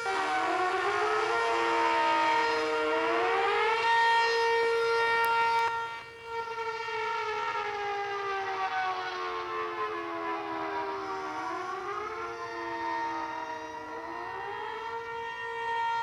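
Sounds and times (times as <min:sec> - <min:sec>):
tornado sirens wailing: 0:00.0 - 0:16.0.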